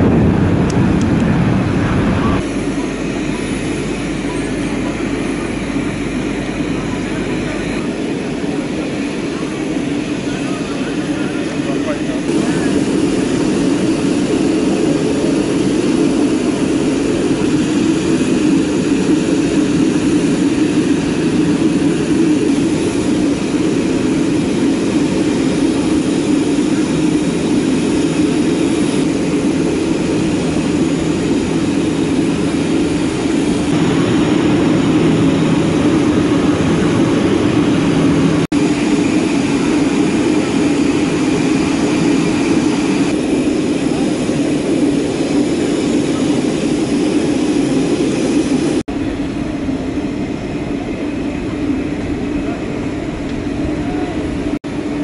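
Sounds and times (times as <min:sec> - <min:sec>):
jet airliner drone: 0:00.0 - 0:55.0.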